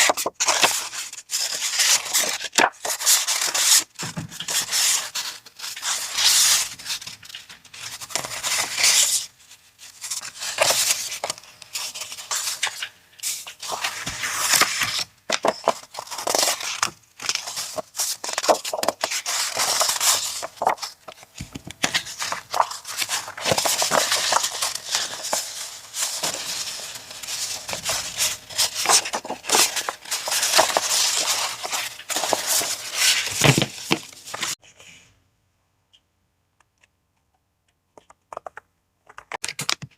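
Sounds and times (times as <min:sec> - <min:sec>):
paper rustling and crackling: 0:00.0 - 0:34.6.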